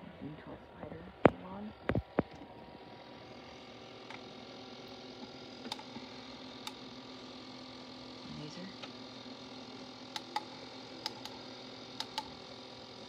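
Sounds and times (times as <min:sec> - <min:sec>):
mechanical hum of light effects: 0:00.0 - 0:13.0.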